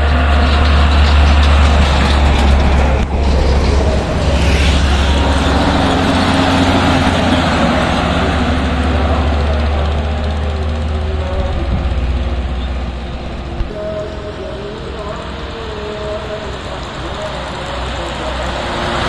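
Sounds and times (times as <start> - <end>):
heavy trucks passing: 0.0 - 19.0
tanker truck passing by: 0.0 - 19.0.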